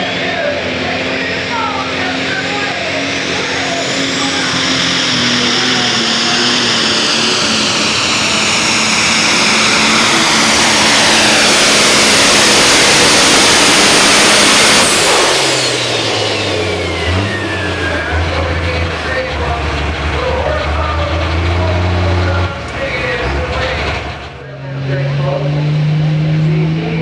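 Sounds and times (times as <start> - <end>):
high whine winding down: 0.0 - 24.5
low engine rumble: 0.0 - 24.6
engine at full throttle: 0.0 - 27.0.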